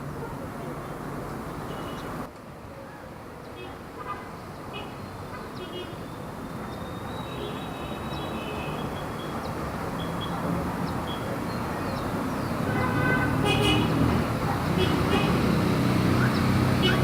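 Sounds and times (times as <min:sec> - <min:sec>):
rumble of passing road vehicles: 0:00.0 - 0:17.0.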